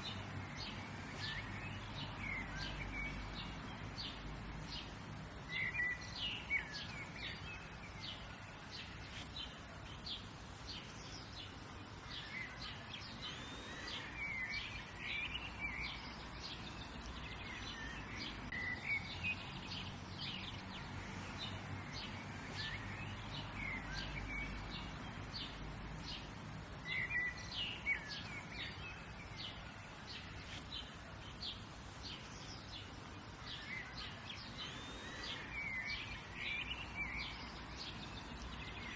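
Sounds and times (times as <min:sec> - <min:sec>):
birds chirping and calling: 0:00.0 - 0:38.9
low background noise: 0:00.0 - 0:38.9.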